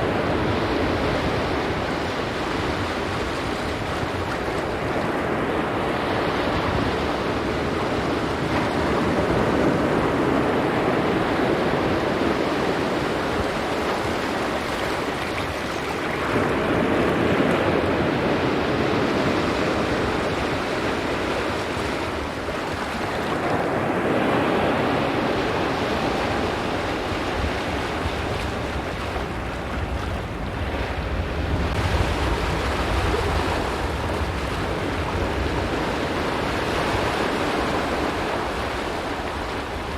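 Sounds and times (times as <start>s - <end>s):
waves on rocky shore: 0.0s - 39.9s
wind rumbling on microphone: 0.0s - 39.9s.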